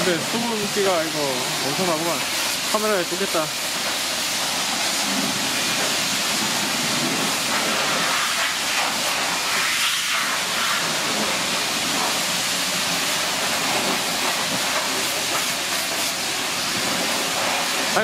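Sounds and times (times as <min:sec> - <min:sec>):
pressure washer spraying water: 0:00.0 - 0:18.0.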